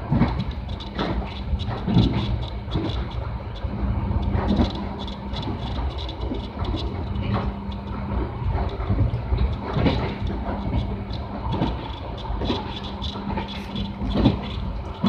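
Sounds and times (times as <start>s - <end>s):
constant hum: 0.0s - 15.0s
train rumble: 0.0s - 15.0s.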